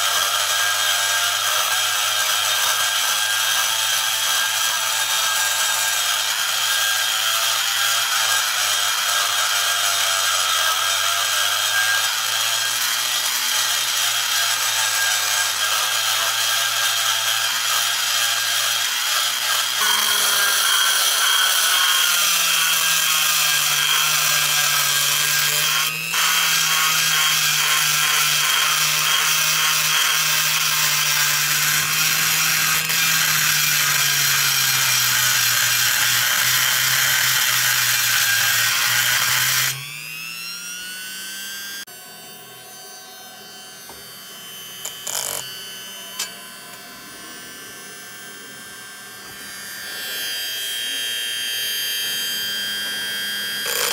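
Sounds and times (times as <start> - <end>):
rotary tool grinding metal: 0.0 - 53.9.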